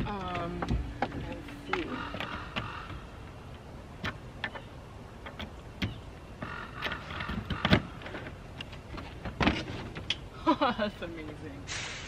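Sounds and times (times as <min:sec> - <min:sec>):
latch clicks: 0:00.2 - 0:10.2.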